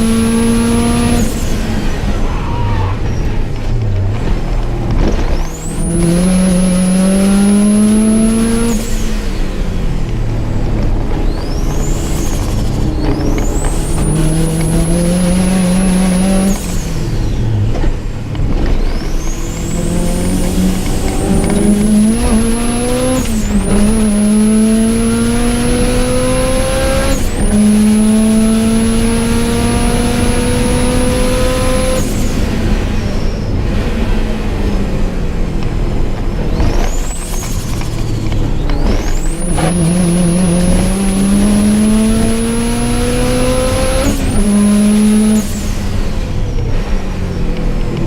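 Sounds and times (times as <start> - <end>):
car engine accelerating hard: 0.0 - 48.0
high whine: 0.0 - 48.0.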